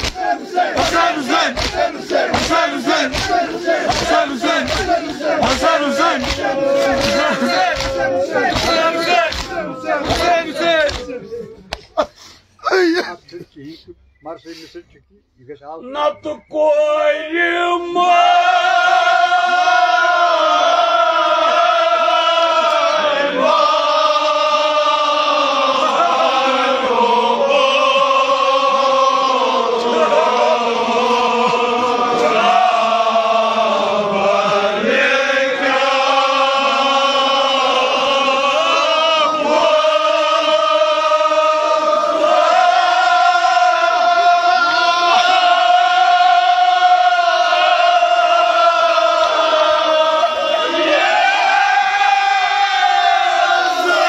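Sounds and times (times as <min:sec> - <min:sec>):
vocal chanting in long notes: 0:00.0 - 0:11.8, 0:16.7 - 0:54.0.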